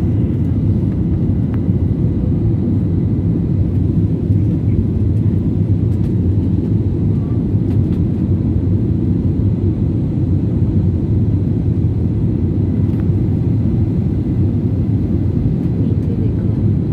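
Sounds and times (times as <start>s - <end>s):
airliner cabin engine rumble: 0.0s - 16.9s.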